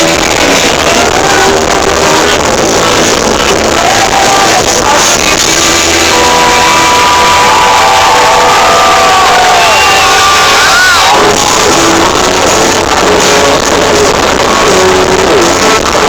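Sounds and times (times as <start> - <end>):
crowd shouting and singing along: 0.0 - 16.0
live rock band playing: 0.0 - 16.0.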